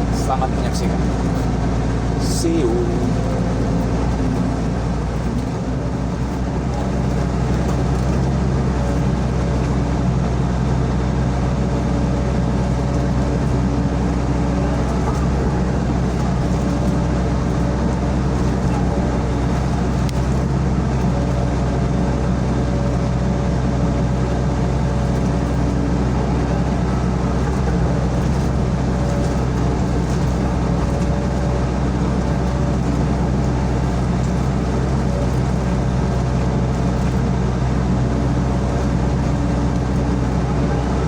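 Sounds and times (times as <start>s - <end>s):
excavator diesel engine drone: 0.0s - 41.0s.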